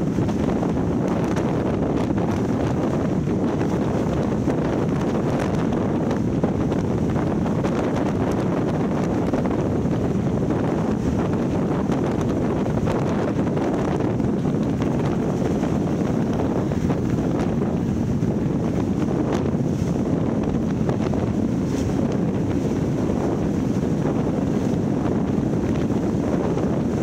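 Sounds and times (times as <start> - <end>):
boat rushing over water: 0.0 - 27.0
wind rushing over microphone: 0.0 - 27.0.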